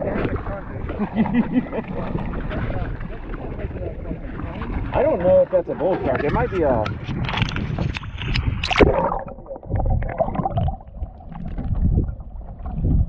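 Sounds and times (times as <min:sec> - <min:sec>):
water splashing against kayak hull: 0:00.0 - 0:13.0
wind rumbling on microphone: 0:00.0 - 0:13.0.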